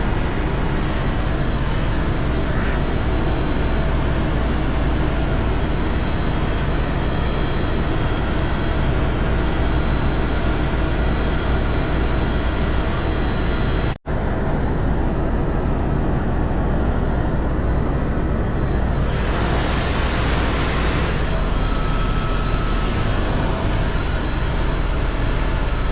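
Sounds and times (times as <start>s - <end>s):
helicopter engine and rotor drone: 0.0s - 25.9s
high turbine whine: 0.0s - 25.9s.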